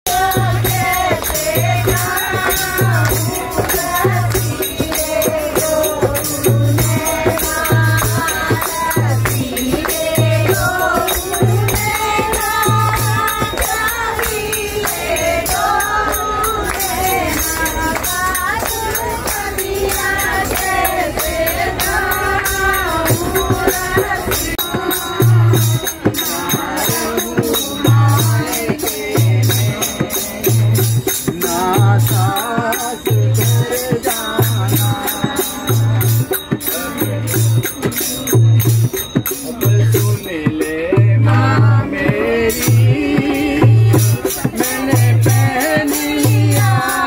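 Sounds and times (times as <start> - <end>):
hand drum: 0.1 - 47.0
jingling tambourine: 0.1 - 47.0
women singing devotional song: 0.1 - 47.0.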